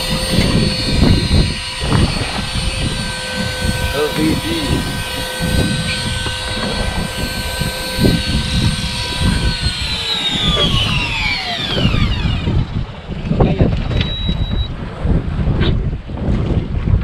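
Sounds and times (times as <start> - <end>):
engine whining: 0.0 - 14.7.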